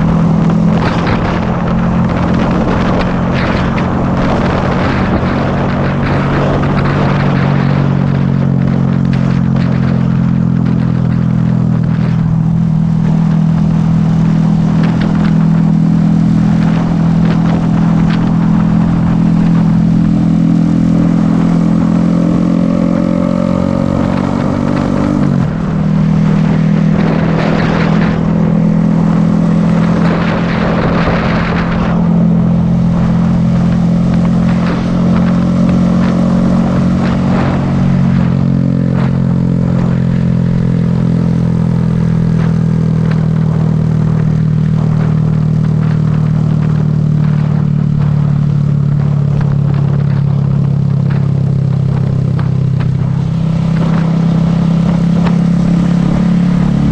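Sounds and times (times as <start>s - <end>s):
motorcycle engine running: 0.0s - 56.9s
rushing noise: 0.0s - 56.9s.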